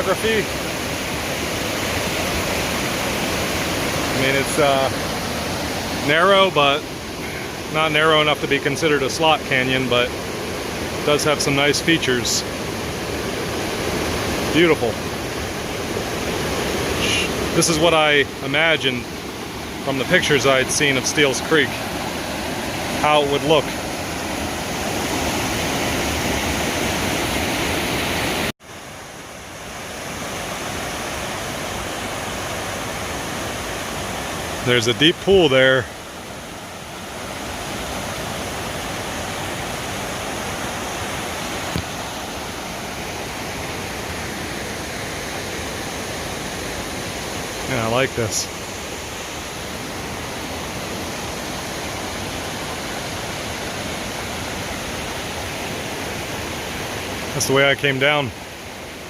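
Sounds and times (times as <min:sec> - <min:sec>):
rush of waterfalls: 0:00.0 - 0:59.0.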